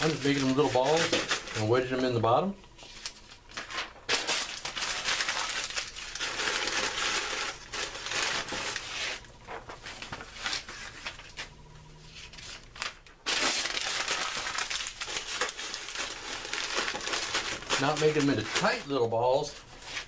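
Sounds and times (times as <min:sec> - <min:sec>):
newspaper crumpling: 0:00.0 - 0:02.2, 0:02.8 - 0:20.0.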